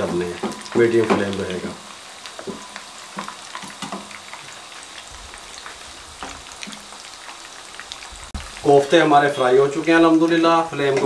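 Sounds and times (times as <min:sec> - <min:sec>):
meatballs sizzling in oil: 0:00.0 - 0:11.0.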